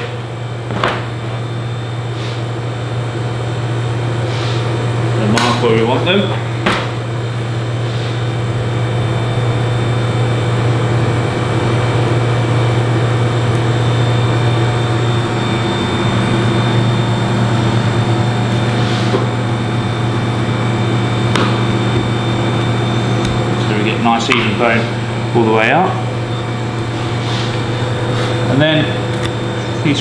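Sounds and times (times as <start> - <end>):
low hum of kitchen machinery: 0.0 - 30.0.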